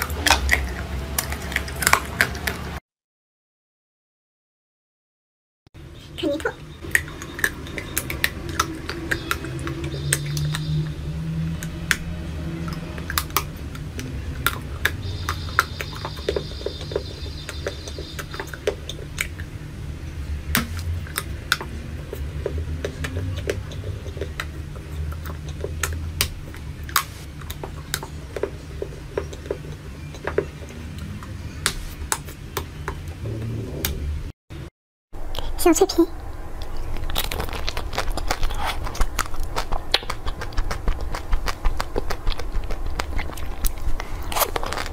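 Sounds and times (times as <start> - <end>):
chocolate crunching as chewed: 0.0 - 2.8, 6.8 - 19.6, 20.6 - 32.7, 36.6 - 44.9
low steady hum: 5.8 - 44.9.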